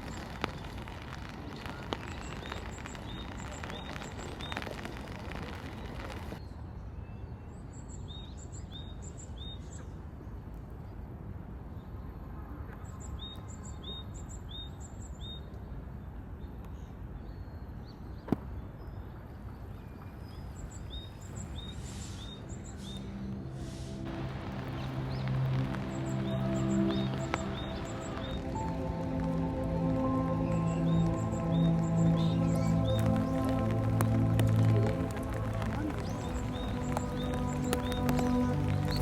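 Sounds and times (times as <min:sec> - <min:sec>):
low outdoor background noise: 0:00.0 - 0:39.0.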